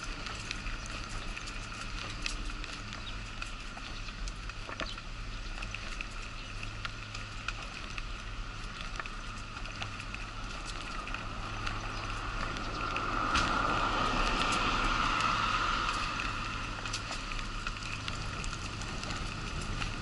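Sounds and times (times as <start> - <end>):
steady hum and whine: 0.0 - 20.0
wheelchair wheels rattling over paving: 0.0 - 20.0.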